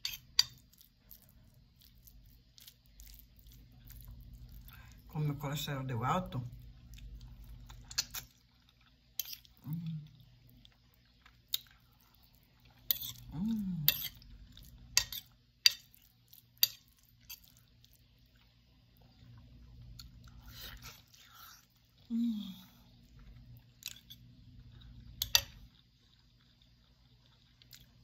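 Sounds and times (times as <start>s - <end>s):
chewing food: 0.0s - 5.1s, 6.3s - 22.1s, 22.8s - 28.0s.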